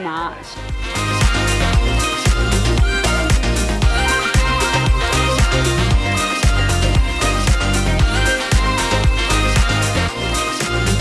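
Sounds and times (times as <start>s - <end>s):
upbeat dance music: 0.0s - 11.0s
bass hits: 0.6s - 11.0s.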